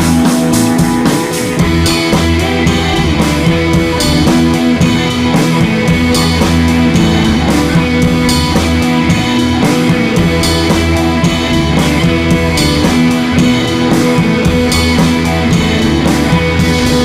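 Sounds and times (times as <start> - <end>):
drum kit beat: 0.0 - 17.0
electric guitar: 0.0 - 17.0.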